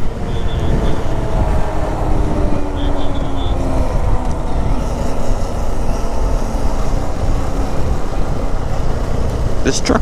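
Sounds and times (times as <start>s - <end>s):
motorcycle engine running: 0.0s - 10.0s
wind noise on microphone: 0.0s - 10.0s.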